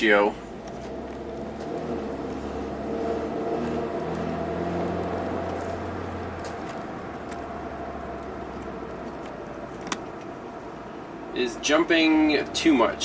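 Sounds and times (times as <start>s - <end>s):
road rumble: 0.0s - 13.0s
van engine from inside cab: 0.0s - 13.0s.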